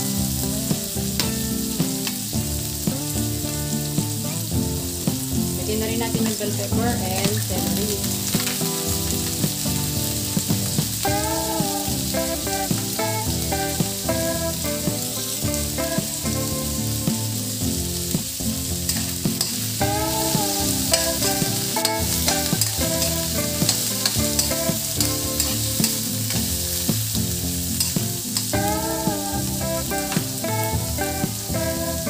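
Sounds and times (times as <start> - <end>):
melodic music: 0.0 - 32.0
vegetables sizzling in hot oil: 0.0 - 32.0.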